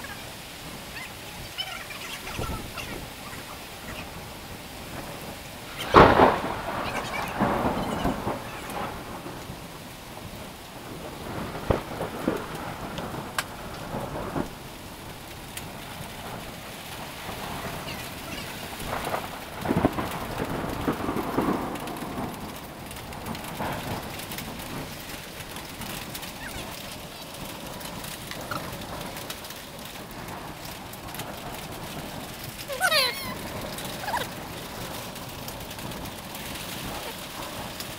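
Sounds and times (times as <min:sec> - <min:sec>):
rain and hail on surfaces: 0:00.0 - 0:37.9.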